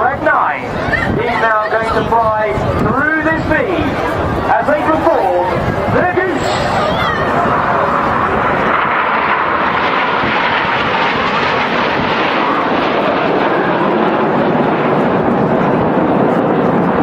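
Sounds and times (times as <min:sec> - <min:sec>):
jet engine noise: 0:00.0 - 0:17.0.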